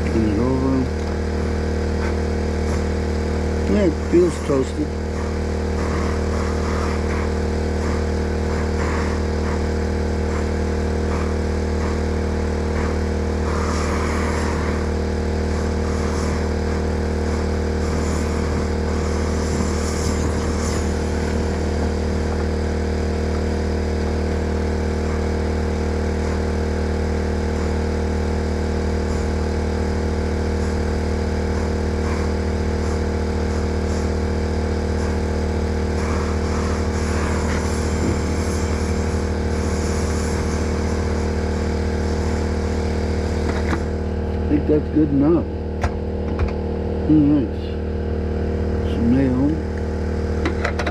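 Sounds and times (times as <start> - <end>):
generator engine running: 0.0 - 50.9.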